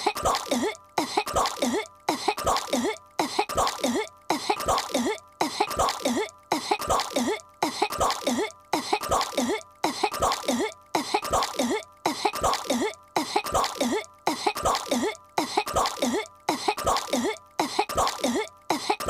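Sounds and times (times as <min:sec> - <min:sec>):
cartoon girl coughing and choking: 0:00.0 - 0:19.0.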